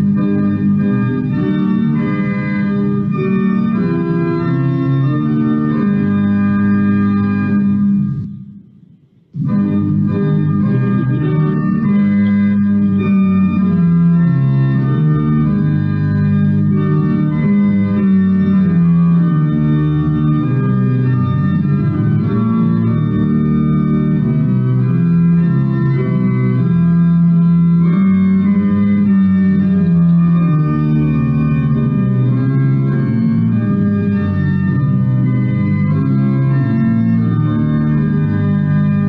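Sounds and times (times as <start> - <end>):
organ playing a hymn: 0.0 - 39.0.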